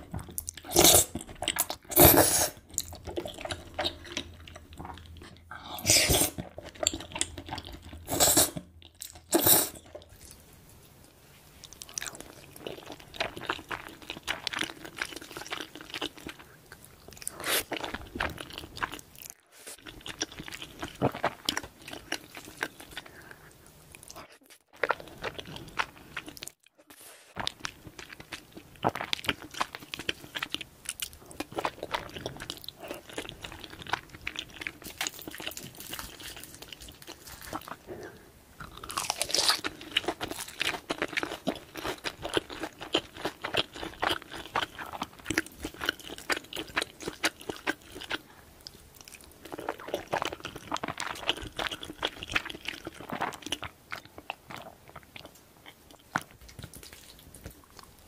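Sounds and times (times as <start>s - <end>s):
chewing food with wet crunches: 0.0s - 2.0s, 2.6s - 5.5s, 6.4s - 10.5s, 11.6s - 58.0s.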